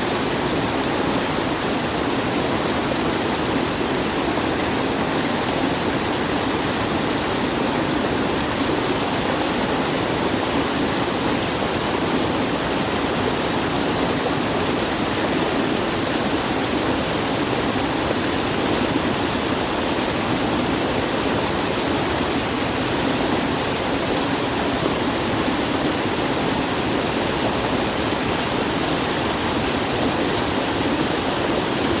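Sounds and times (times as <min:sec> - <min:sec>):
rushing water: 0:00.0 - 0:32.0.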